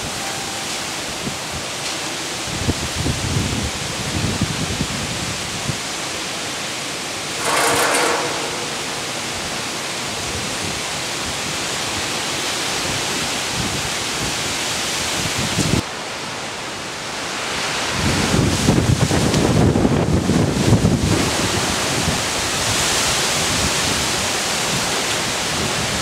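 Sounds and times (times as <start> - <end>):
strong wind with rain: 0.0 - 26.0.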